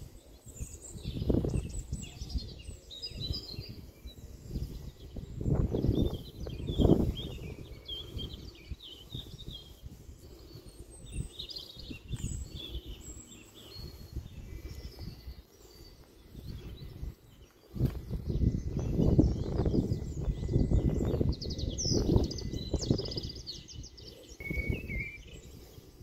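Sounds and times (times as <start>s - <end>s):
birds chirping and trilling: 0.0s - 26.0s
wind on microphone: 0.0s - 26.0s.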